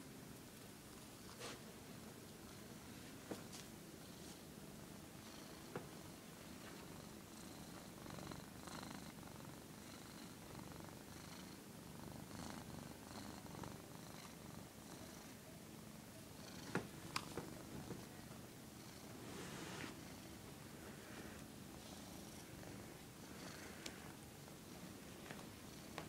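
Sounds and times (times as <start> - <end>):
cat purring: 4.0 - 26.0.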